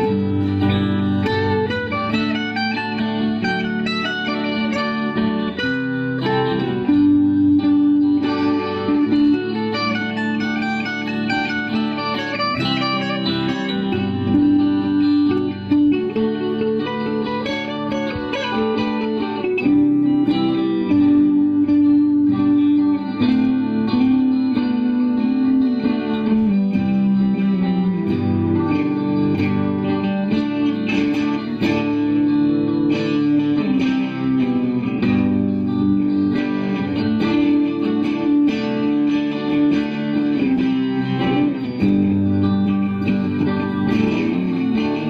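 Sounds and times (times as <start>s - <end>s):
electric guitar picked notes: 0.0s - 45.0s.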